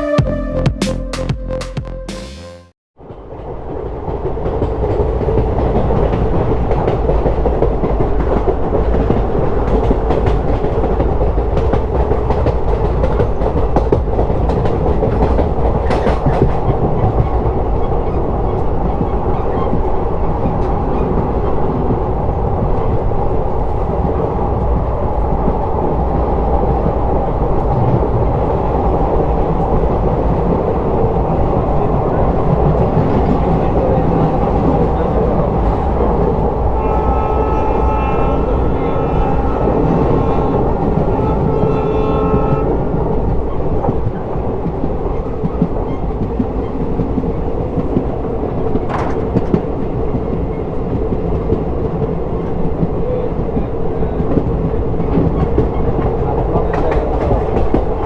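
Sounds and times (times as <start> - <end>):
train wheels on rails: 3.0 - 58.0.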